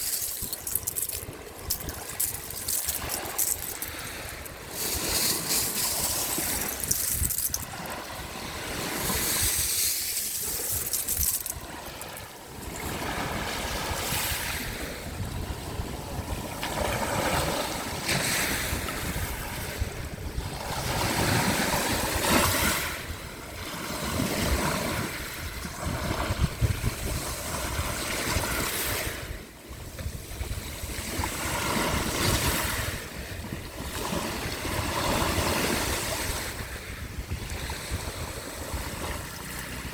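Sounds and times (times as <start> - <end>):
waves washing onto shore: 0.0 - 39.9
wind rumbling on microphone: 0.0 - 39.9.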